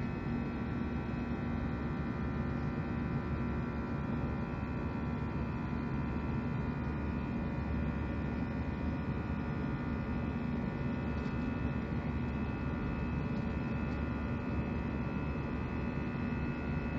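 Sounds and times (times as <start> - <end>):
jet engine drone from cabin: 0.0 - 16.9.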